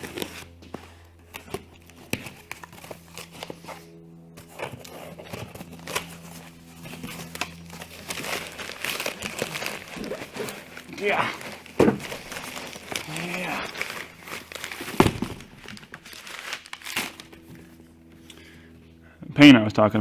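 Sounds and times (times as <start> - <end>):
cardboard crinkling and tearing: 0.0 - 18.1.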